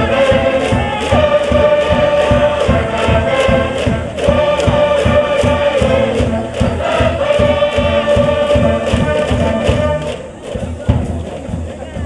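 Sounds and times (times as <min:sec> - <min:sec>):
crowd chanting: 0:00.0 - 0:10.8
bass drum and cymbal beat: 0:00.0 - 0:12.0
brass band playing: 0:00.0 - 0:12.0.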